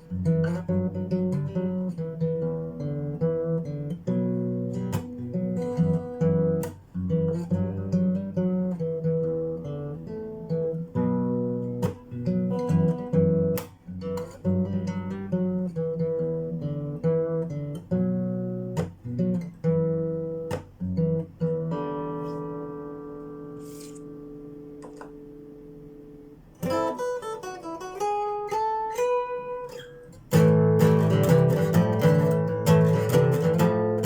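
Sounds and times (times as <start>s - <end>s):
acoustic guitar strummed chords: 0.0s - 34.0s.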